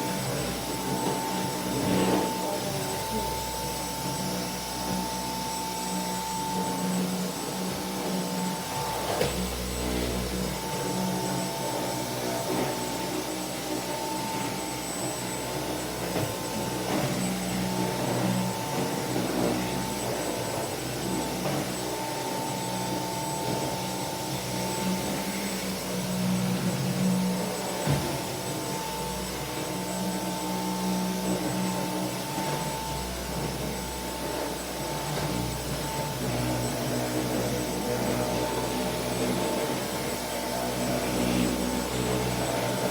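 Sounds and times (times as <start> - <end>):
vacuum cleaner whining: 0.0 - 42.9.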